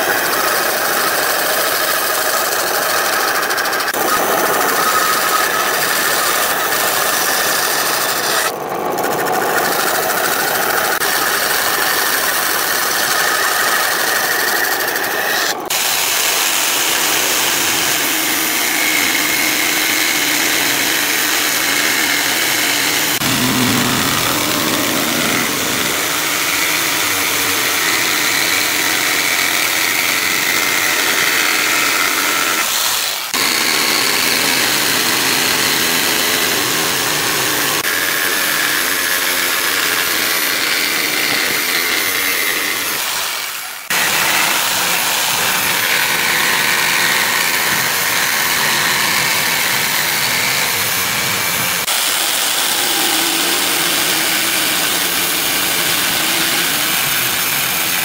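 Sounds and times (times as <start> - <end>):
jigsaw cutting wood: 0.0 - 58.0.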